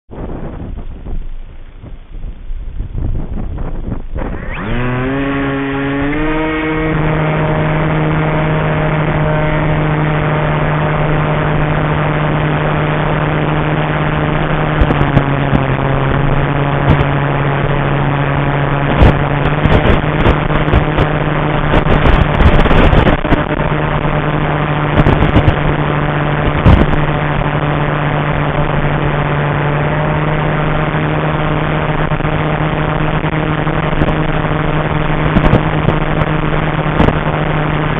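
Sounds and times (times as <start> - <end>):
electric motor and propeller whine: 0.1 - 37.9
wind buffeting microphone: 0.1 - 37.9.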